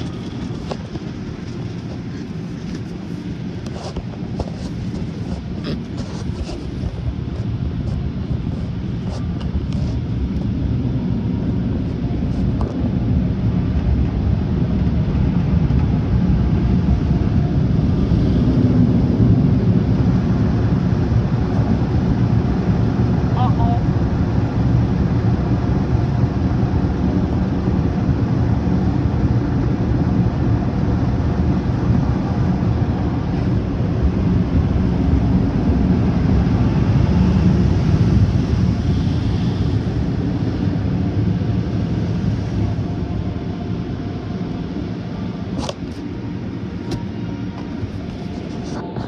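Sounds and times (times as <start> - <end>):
car wash machinery rumbling: 0.0 - 49.0.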